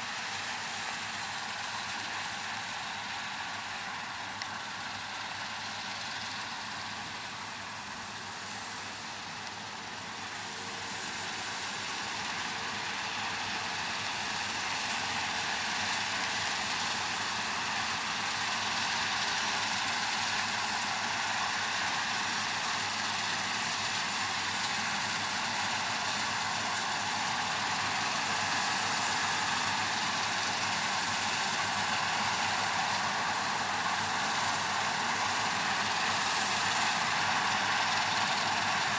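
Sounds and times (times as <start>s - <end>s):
heavy farm machinery engine: 0.0s - 38.9s.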